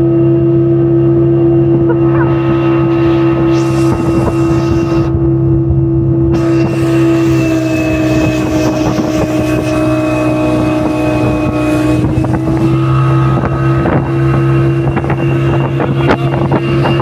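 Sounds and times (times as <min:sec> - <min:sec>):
motorboat engine humming: 0:00.0 - 0:17.0.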